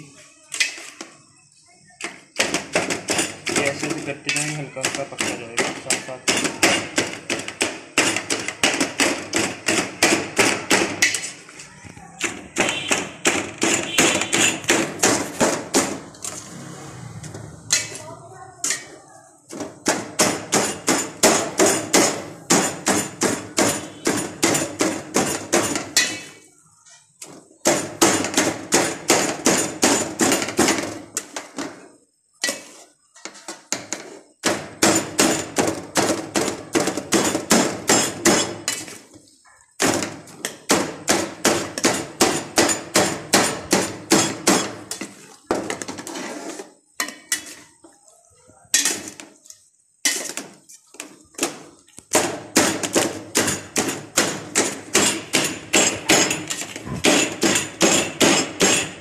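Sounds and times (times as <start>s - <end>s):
metal scraper chopping on steel: 2.0s - 11.4s, 12.2s - 16.4s, 17.6s - 26.5s, 27.6s - 31.4s, 32.4s - 39.0s, 39.8s - 47.6s, 48.7s - 49.2s, 50.0s - 50.6s, 51.4s - 59.0s.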